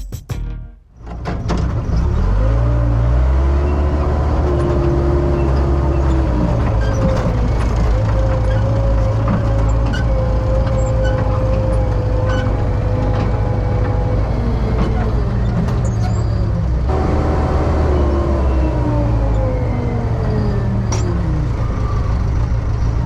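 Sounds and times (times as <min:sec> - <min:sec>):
diesel engine running: 0:01.0 - 0:23.0.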